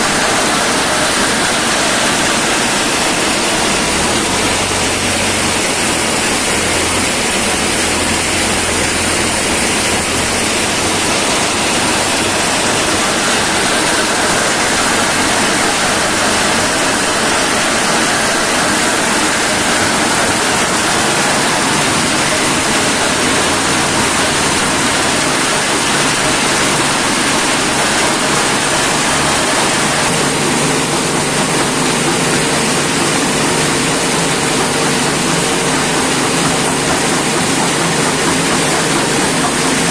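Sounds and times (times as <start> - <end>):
stone crusher running: 0.0 - 39.9.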